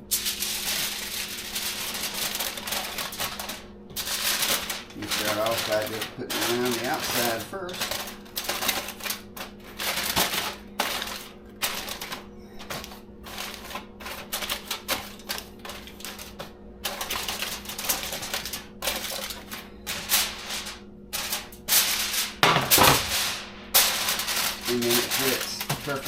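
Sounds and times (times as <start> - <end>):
aluminium foil crinkling: 0.0 - 26.0
faint steady hum: 0.0 - 26.0.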